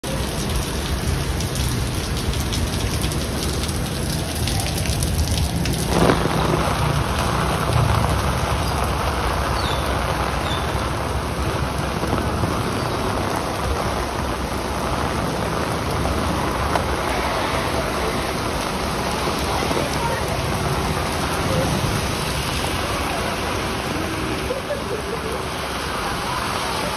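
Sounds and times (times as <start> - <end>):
heavy rain on street and cars: 0.0 - 26.9.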